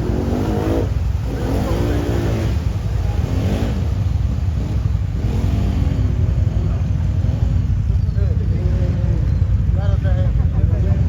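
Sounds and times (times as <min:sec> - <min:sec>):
quad bike engines revving: 0:00.0 - 0:11.0.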